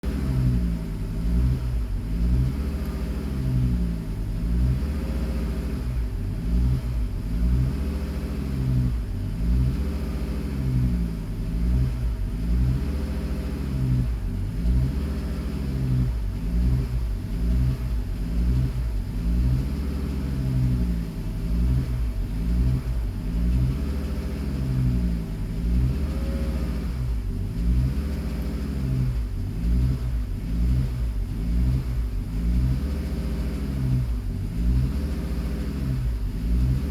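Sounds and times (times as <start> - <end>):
car engine idling unevenly: 0.0 - 36.9.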